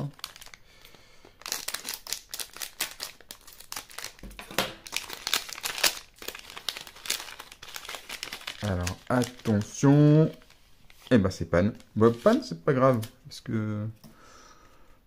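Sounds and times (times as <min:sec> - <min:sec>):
plastic wrapper crinkling and tearing: 0:00.0 - 0:13.2.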